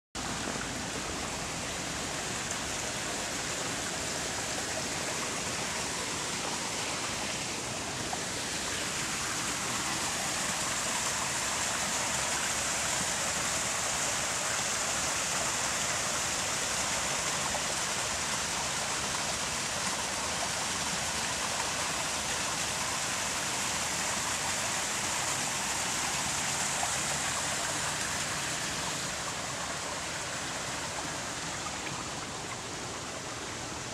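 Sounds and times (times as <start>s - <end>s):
water cascading over rocks: 0.2s - 33.9s.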